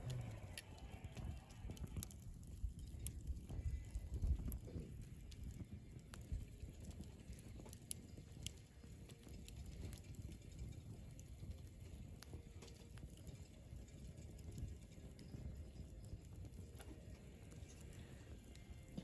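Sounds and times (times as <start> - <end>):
campfire crackling and popping: 0.0 - 19.0
low steady fire rumble: 0.0 - 19.0.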